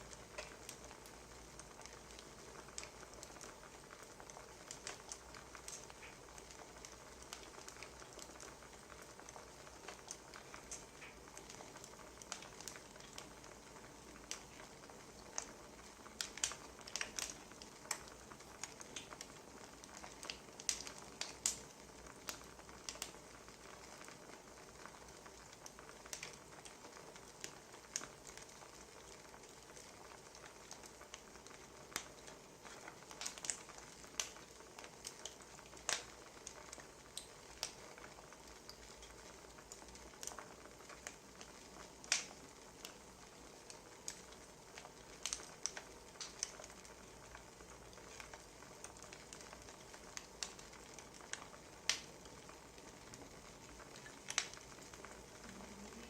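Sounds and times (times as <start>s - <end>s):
wood fire crackling: 0.0s - 56.0s
fire pops: 4.6s - 56.0s.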